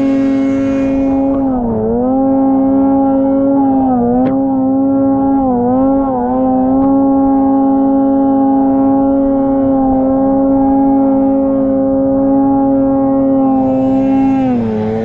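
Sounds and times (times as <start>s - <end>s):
snowmobile engine running hard: 0.0s - 15.0s.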